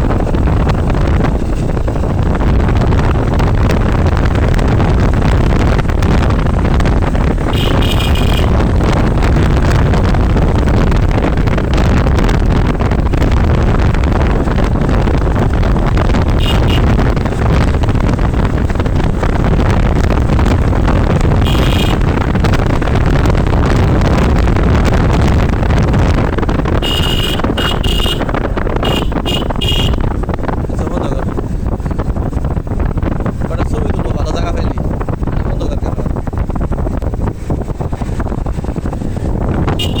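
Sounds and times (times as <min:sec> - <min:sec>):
motorbike engine and road noise: 0:00.0 - 0:40.0
wind buffeting microphone: 0:00.0 - 0:40.0.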